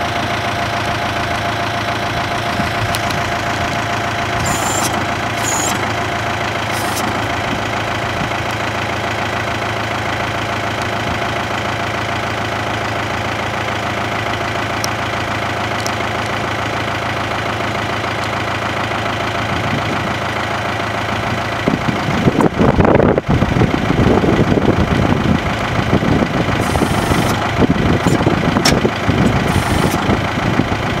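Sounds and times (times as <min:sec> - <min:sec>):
loud uneven rumble: 0:00.0 - 0:31.0
tractor diesel engine idling: 0:00.0 - 0:31.0.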